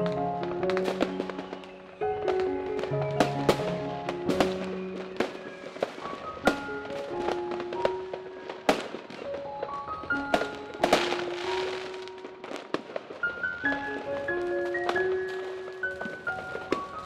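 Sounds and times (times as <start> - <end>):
background music: 0.0 - 17.0
fireworks bangs and crackling: 0.0 - 17.0.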